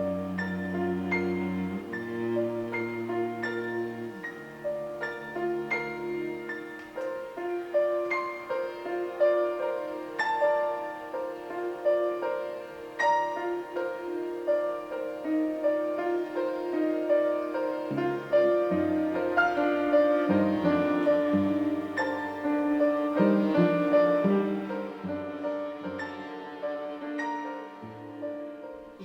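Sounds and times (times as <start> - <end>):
held piano tone: 0.0 - 29.0
slow piano melody: 0.0 - 29.0.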